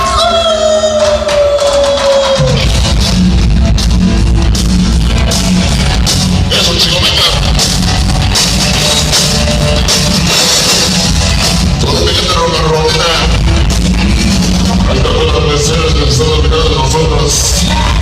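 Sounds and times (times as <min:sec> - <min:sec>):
loud instrumental band music: 0:00.0 - 0:18.0.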